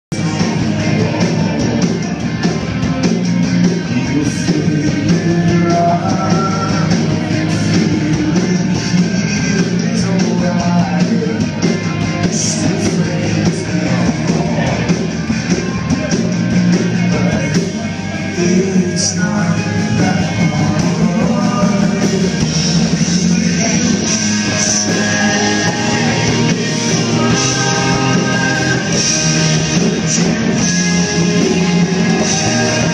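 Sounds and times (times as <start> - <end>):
drum kit: 0.1 - 32.9
electric guitars: 0.1 - 32.9.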